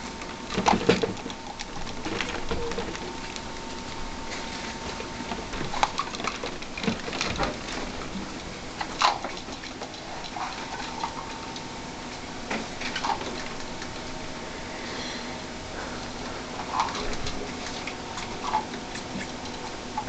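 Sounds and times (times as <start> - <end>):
rats scratching and rustling: 0.0 - 20.0.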